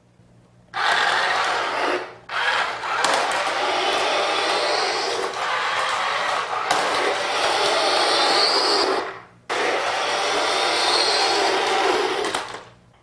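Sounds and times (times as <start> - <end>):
toy jet whirring whoosh: 0.8 - 12.5.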